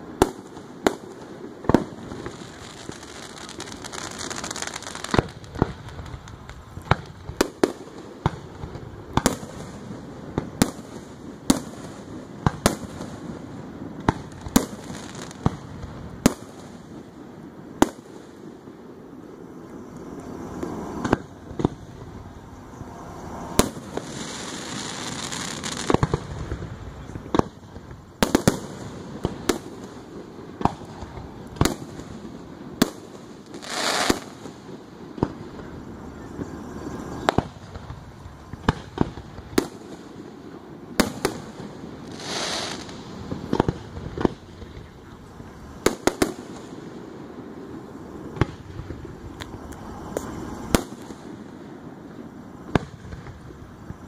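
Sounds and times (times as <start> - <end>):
fireworks hissing and crackling: 0.0 - 54.0.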